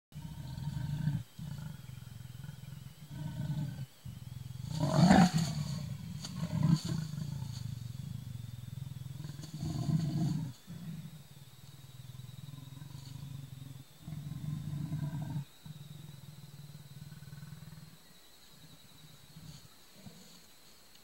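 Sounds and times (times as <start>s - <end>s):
leopard growling: 0.2s - 20.5s
leopard snarling: 0.2s - 20.5s.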